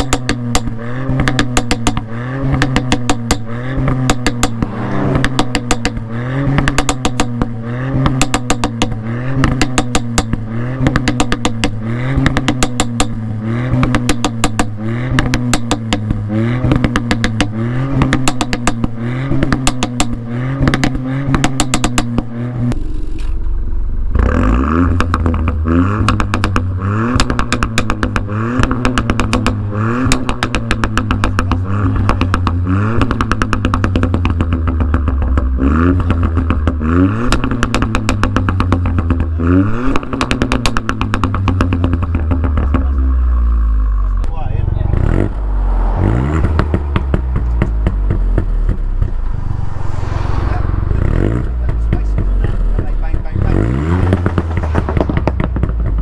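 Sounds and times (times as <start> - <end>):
car engine revving: 0.0 - 56.0
deeper car exhaust revving: 0.0 - 56.0.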